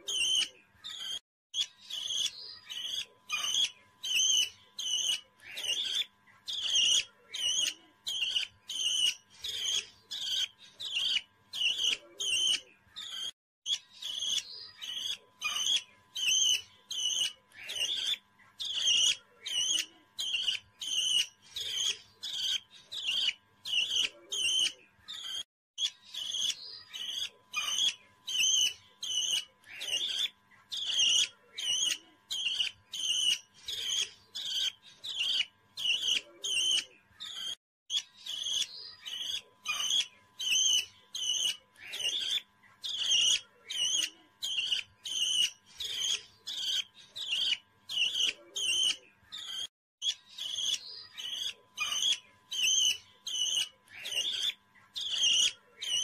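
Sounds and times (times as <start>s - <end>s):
parrot chirping: 0.1s - 56.0s.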